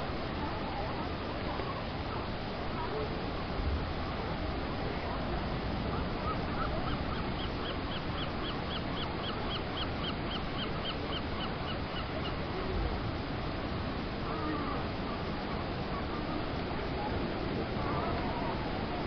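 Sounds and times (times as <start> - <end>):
wind noise: 0.0 - 19.0.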